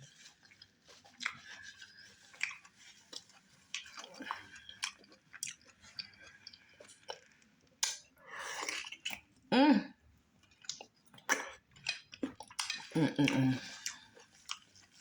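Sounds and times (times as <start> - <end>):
wet chewing and mouth smacking: 0.0 - 9.5, 10.4 - 15.0.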